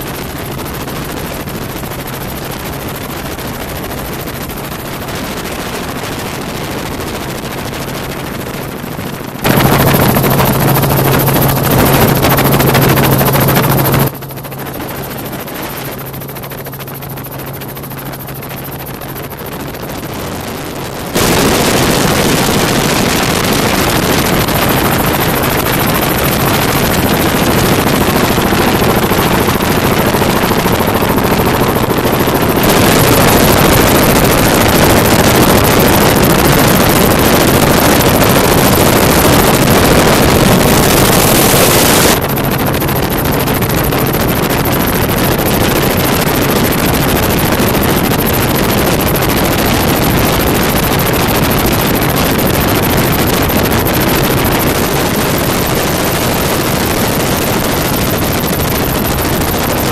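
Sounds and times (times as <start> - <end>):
helicopter noise: 0.0 - 59.9
wind buffeting microphone: 0.3 - 14.2, 19.1 - 59.9.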